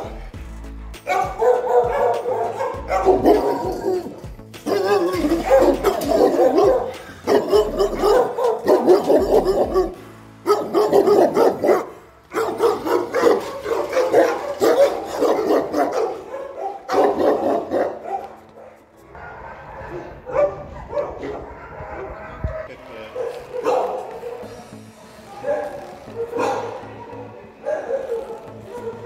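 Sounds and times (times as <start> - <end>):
dogs barking: 0.0 - 0.3, 1.0 - 29.0.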